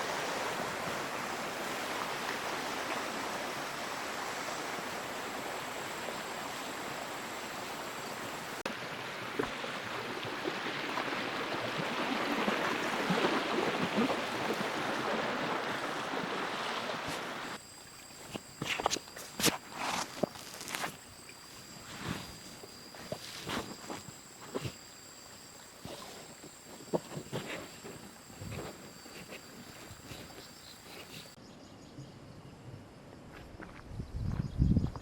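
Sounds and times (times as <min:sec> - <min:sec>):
stream water rushing: 0:00.0 - 0:31.4.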